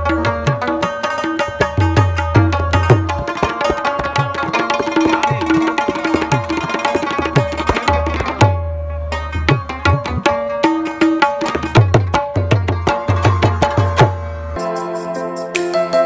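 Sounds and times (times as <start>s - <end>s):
plucked rubab notes: 0.0s - 16.0s
tabla strokes: 0.0s - 16.0s.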